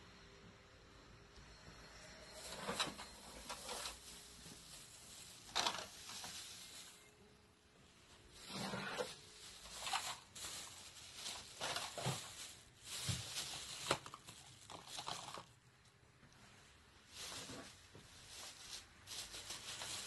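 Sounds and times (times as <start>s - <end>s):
plastic bags rustling: 2.1s - 15.8s, 16.6s - 20.0s.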